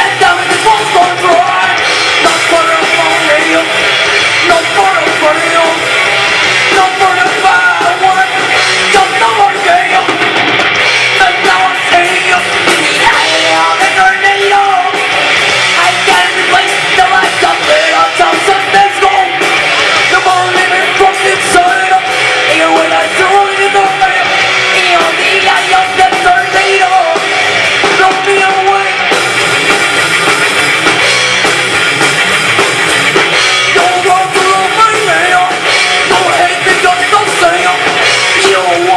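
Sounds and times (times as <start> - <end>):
person singing: 0.0 - 3.8, 4.4 - 10.4, 11.1 - 15.2, 15.8 - 29.1, 33.7 - 38.9
drum kit: 0.0 - 38.9
electric guitar: 0.0 - 38.9.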